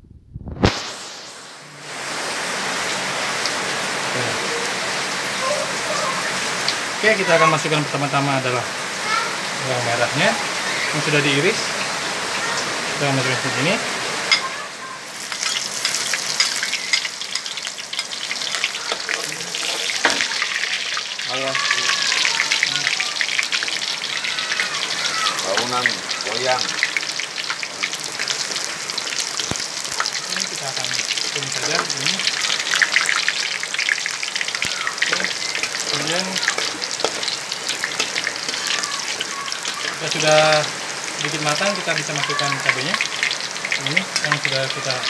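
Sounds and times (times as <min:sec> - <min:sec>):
shallots sizzling in oil: 0:00.4 - 0:45.0.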